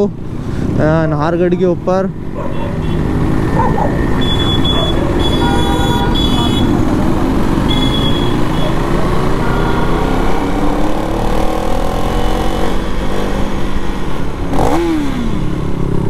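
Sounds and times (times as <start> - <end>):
road and wind noise: 0.0 - 16.0
motorcycle engine accelerating: 3.0 - 16.0.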